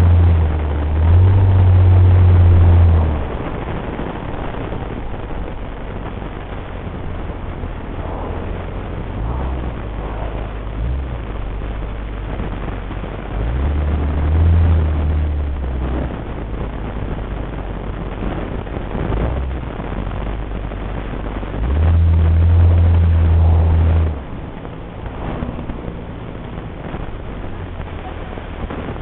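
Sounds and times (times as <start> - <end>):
low droning boom: 0.0 - 29.0
road and engine noise: 0.0 - 29.0.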